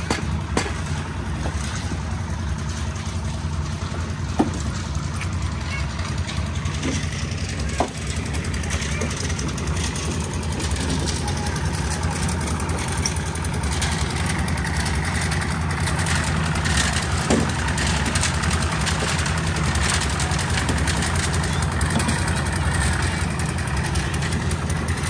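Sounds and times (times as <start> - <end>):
clattering and scraping: 0.0 - 25.0
engine running steadily: 0.0 - 25.0.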